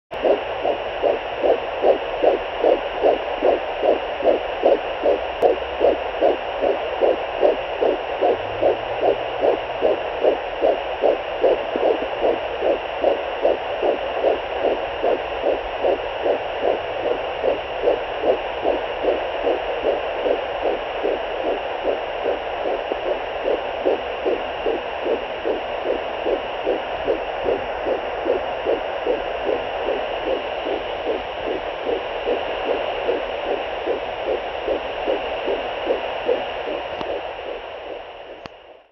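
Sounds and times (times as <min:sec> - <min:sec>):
fast fetal heartbeat pulse: 0:00.1 - 0:38.9.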